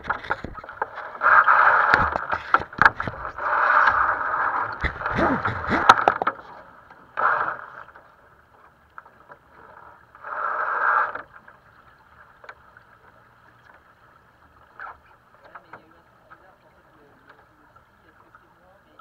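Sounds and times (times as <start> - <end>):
faint clicks from boat fittings: 0.0 - 19.0
rush of water: 0.0 - 19.0
water swishing along hull: 0.0 - 19.0.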